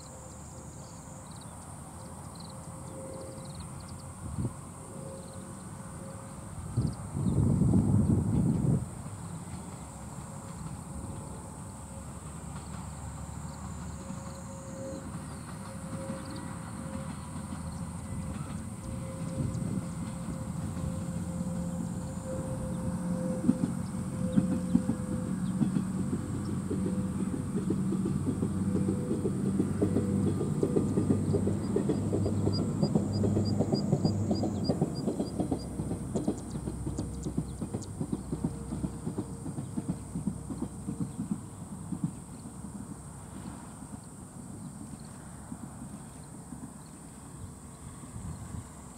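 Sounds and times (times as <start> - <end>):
distant diesel train rumble: 0.0 - 48.9.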